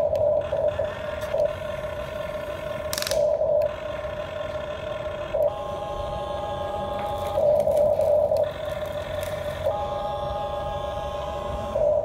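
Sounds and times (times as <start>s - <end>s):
toy electric motors whining: 0.0s - 12.0s.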